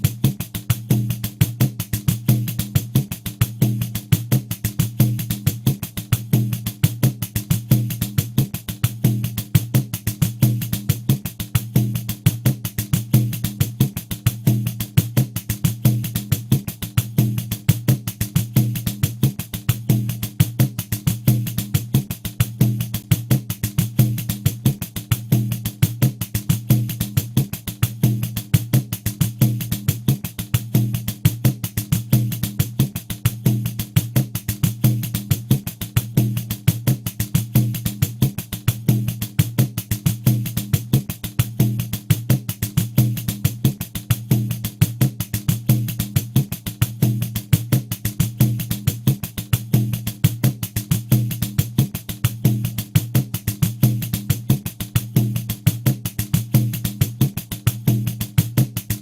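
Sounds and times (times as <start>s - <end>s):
frame drum with jingles: 0.0s - 59.0s.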